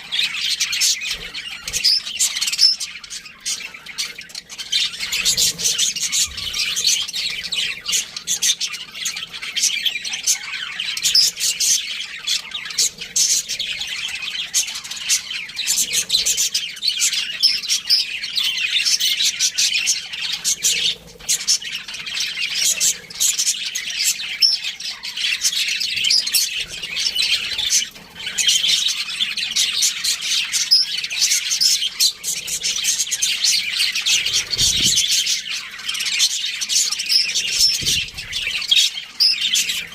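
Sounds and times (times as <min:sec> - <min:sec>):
parakeets chirping and chattering: 0:00.0 - 0:39.9.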